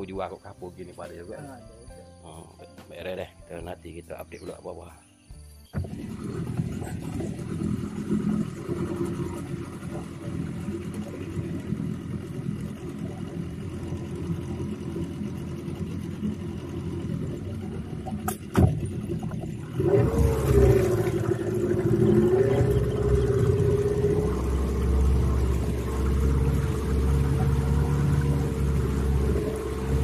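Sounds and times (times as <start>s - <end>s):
outboard motor running: 5.6s - 30.0s.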